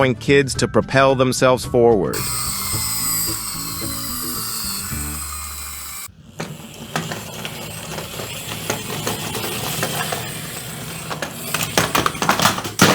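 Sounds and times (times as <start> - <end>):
small toy parts clattering: 2.2 - 12.9.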